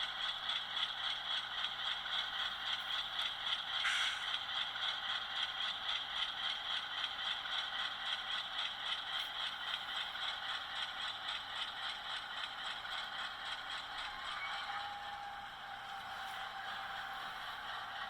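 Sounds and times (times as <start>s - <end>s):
model locomotive clatter: 0.0s - 18.0s.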